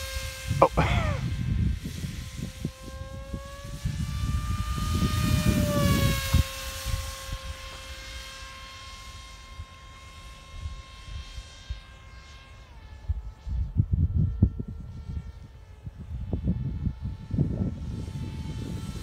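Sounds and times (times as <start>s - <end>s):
model jet motor whining: 0.0s - 19.0s.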